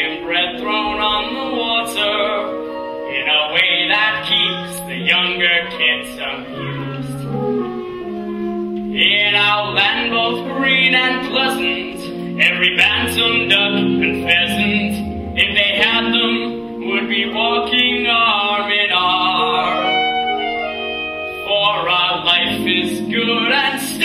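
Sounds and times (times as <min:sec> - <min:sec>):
instrumental accompaniment: 0:00.0 - 0:24.0
voices singing: 0:00.0 - 0:24.0.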